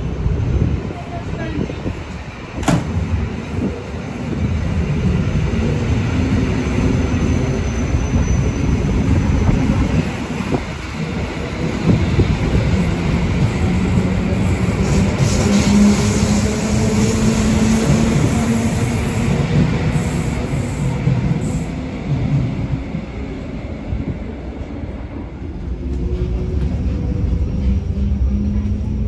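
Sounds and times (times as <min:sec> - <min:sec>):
electric train rumbling on rails: 0:00.0 - 0:29.0.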